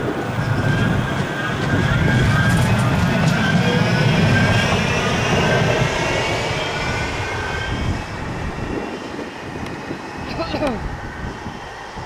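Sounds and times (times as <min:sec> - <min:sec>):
electric traction whine: 0:00.0 - 0:12.0
tram wheels rumbling on rails: 0:00.0 - 0:12.0.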